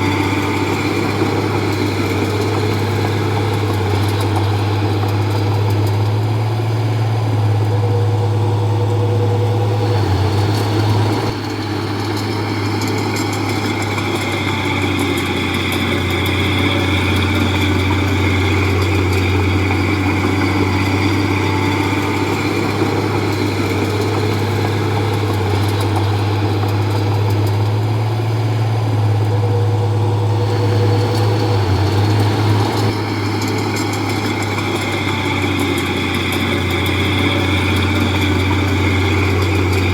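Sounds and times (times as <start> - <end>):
bulldozer diesel engine droning: 0.0 - 39.9
high engine whine: 0.0 - 39.9.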